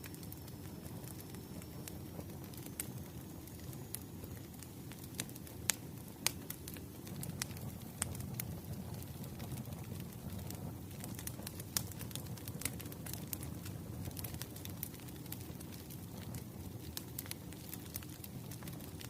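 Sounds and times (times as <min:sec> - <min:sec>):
firewood crackling and popping: 0:00.0 - 0:19.0
low rumble of flames: 0:00.0 - 0:19.0.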